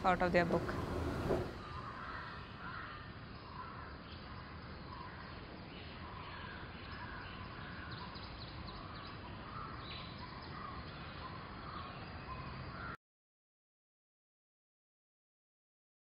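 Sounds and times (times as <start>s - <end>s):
birds calling and chirping: 0.0s - 13.0s.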